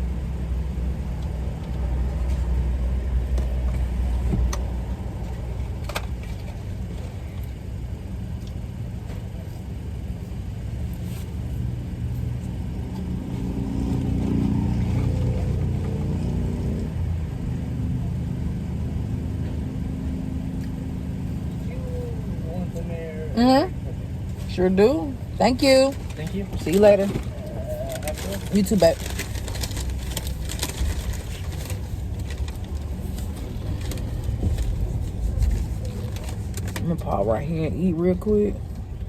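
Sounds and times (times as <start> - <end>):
car engine hum inside cabin: 0.0 - 39.0.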